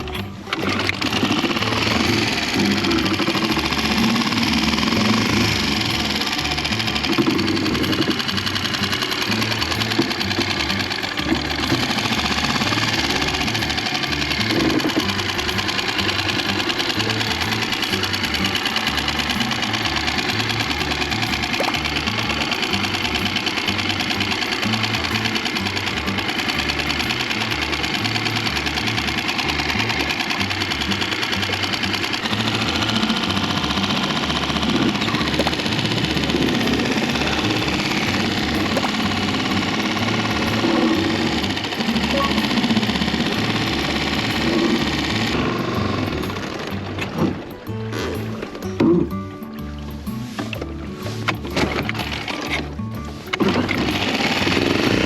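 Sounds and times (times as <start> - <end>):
background music: 0.0 - 55.0
outboard motor running: 0.0 - 55.0.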